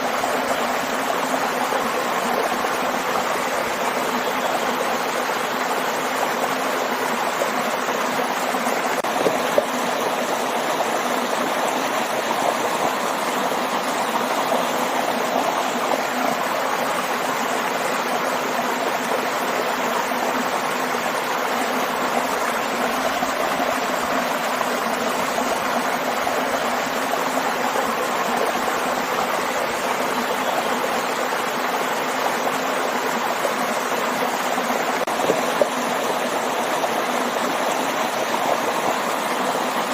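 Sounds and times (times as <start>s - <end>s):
stream and waterfall rushing: 0.0s - 39.9s.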